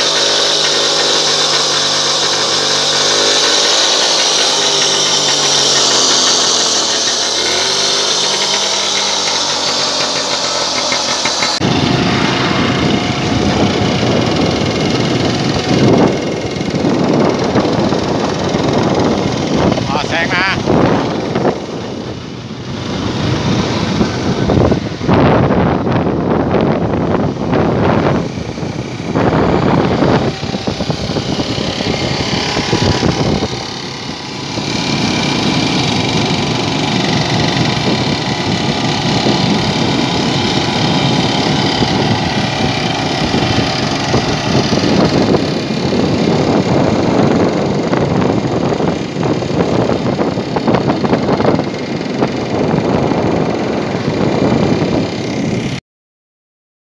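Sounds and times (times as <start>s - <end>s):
scooter engine: 0.0s - 55.8s
small motorcycle engine running: 0.0s - 55.8s.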